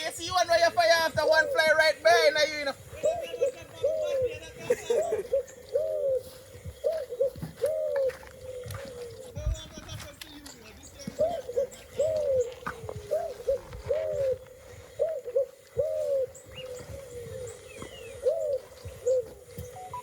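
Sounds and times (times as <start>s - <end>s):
bird hooting: 1.1s - 9.5s, 11.0s - 20.0s.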